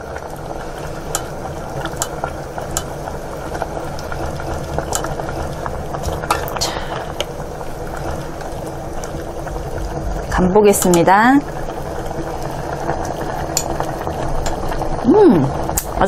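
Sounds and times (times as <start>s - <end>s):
soup bubbling in a pot: 0.0s - 16.0s
wooden spoon stirring: 0.5s - 15.0s.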